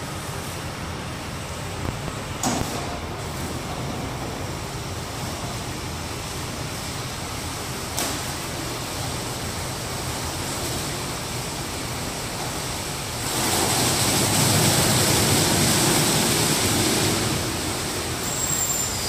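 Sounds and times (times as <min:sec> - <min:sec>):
water spray and wash machinery: 0:00.0 - 0:19.0.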